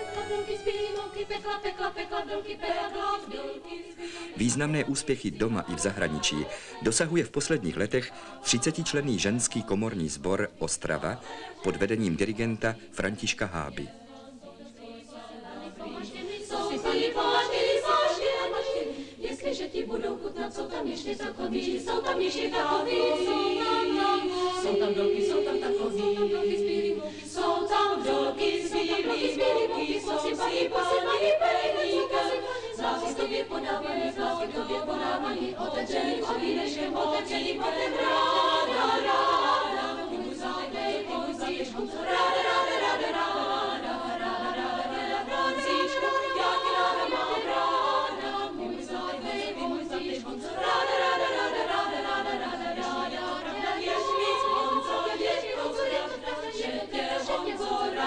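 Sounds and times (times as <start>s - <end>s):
women's choir singing: 0.0s - 58.0s.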